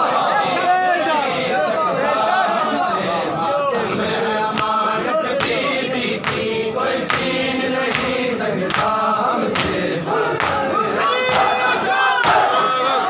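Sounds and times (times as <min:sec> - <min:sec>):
crowd of men singing a lament: 0:00.0 - 0:13.0.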